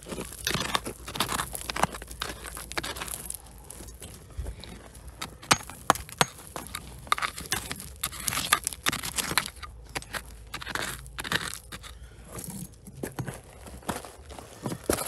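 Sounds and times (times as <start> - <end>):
gravel scraping and rattling: 0.0 - 15.0
stones clicking and knocking: 0.0 - 15.0.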